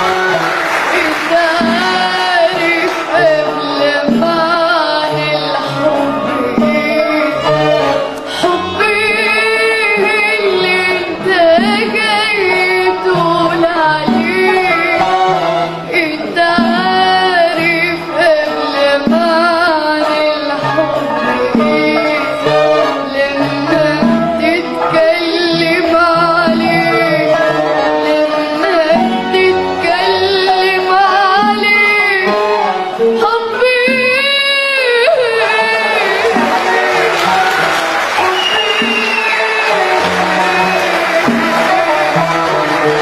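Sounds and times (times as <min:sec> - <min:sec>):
instrumental accompaniment with beat: 0:00.0 - 0:43.0
person singing ornamented melody: 0:00.0 - 0:43.0.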